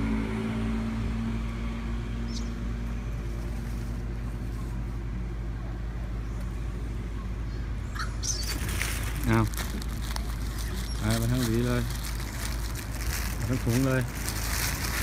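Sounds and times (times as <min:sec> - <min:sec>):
vehicle engine idling: 0:00.7 - 0:15.0.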